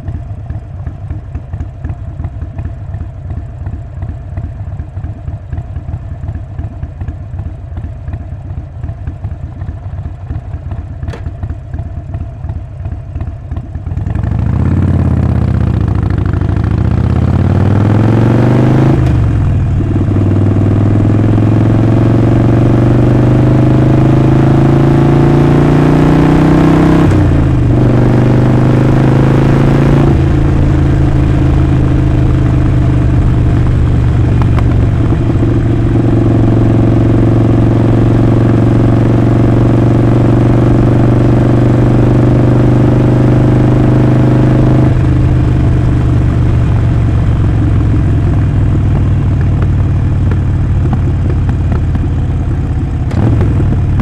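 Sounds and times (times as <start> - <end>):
motorcycle engine idling and accelerating: 0.0 - 54.0.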